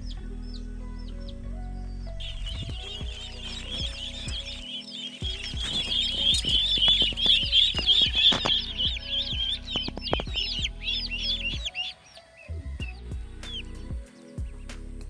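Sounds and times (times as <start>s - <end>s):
ducklings peeping: 0.0s - 14.7s.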